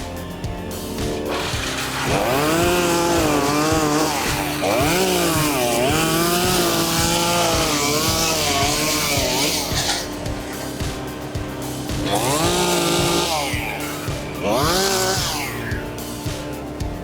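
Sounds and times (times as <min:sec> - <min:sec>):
chainsaw cutting at high revs: 0:00.0 - 0:17.0.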